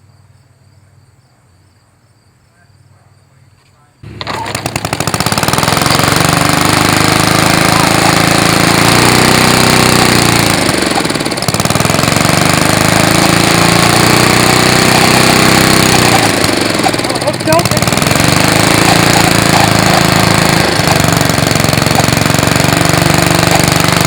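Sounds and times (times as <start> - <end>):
lawn mower engine running: 4.0 - 24.0.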